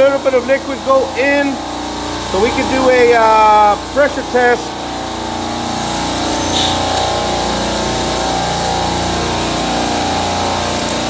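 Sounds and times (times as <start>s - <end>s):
compressors droning: 0.0s - 11.0s.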